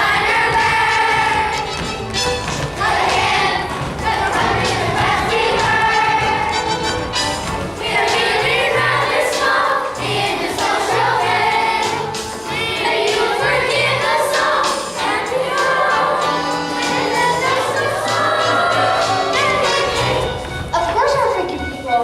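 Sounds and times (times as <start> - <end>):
children's chorus singing: 0.0 - 1.9, 2.6 - 20.8
recorded accompaniment with bass: 0.0 - 22.0.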